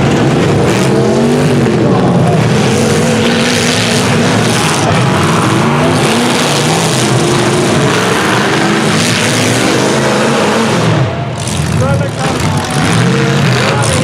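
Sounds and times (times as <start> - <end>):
engines revving hard: 0.0 - 14.0.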